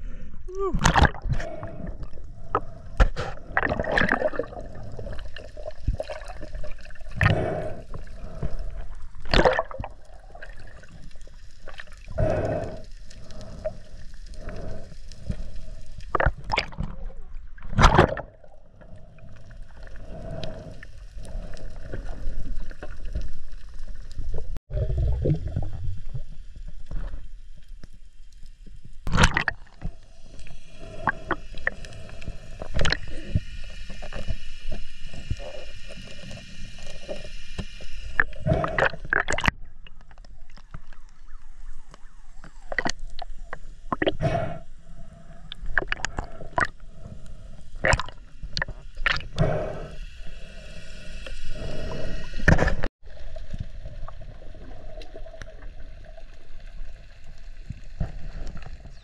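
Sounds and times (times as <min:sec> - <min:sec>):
muffled underwater water movement: 0:00.0 - 0:59.0.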